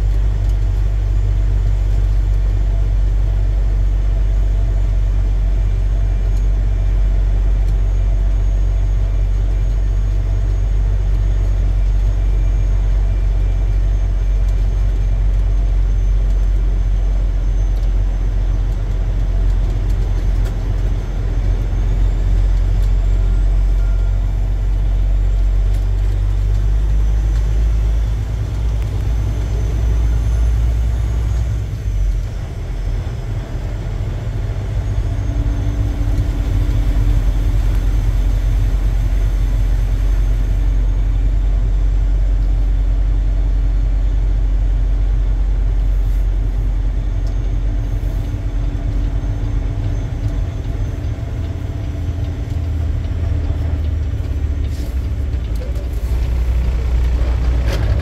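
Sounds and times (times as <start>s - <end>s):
truck diesel engine rumble: 0.0s - 58.0s.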